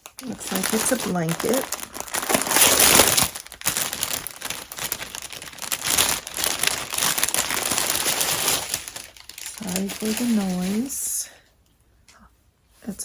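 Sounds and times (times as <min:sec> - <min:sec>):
packaging crinkling and rustling: 0:00.0 - 0:11.1.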